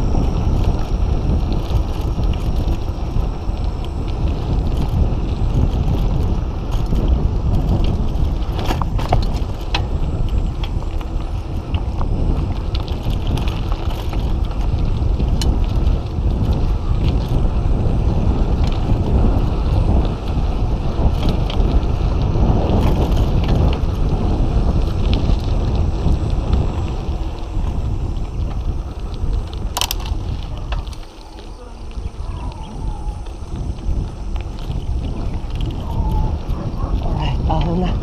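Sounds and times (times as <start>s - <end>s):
bike clicks and rattles: 0.0s - 38.0s
tyres rumbling over path: 0.0s - 38.0s
wind buffeting microphone: 0.0s - 38.0s.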